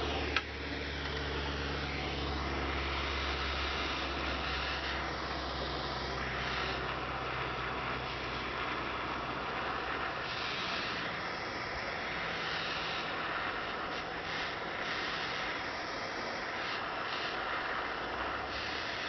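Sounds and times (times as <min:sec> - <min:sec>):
propane torch flame hissing: 0:00.0 - 0:19.0.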